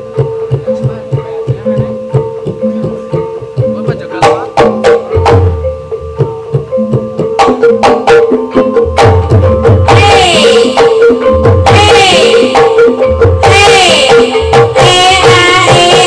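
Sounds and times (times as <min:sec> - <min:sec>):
hand drum strokes: 0:00.0 - 0:16.0
ringing metallophone: 0:00.0 - 0:16.0.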